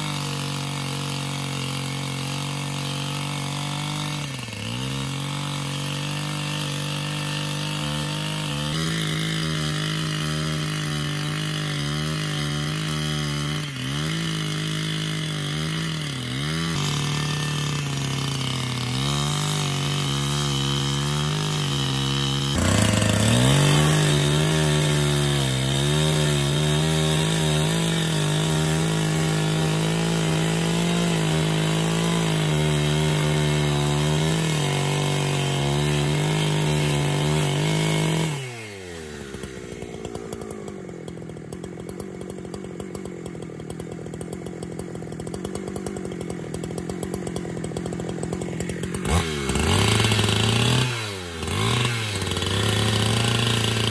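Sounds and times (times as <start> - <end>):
small petrol engine running: 0.0 - 53.9.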